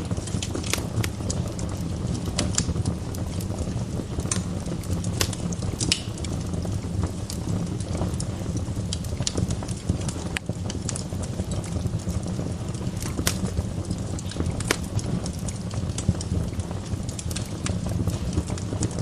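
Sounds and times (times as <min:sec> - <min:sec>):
burning logs crackling and popping: 0:00.0 - 0:19.0
fire flames rumbling: 0:00.0 - 0:19.0.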